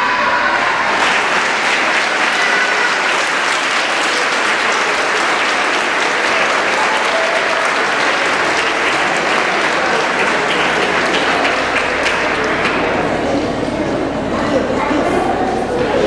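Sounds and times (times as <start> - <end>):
large audience applauding: 0.0 - 13.5.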